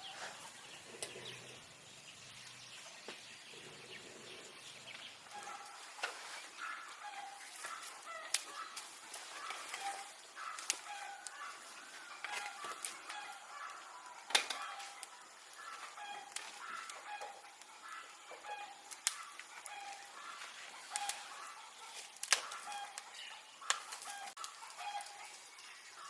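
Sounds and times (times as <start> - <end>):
chickens clucking: 3.1 - 26.0.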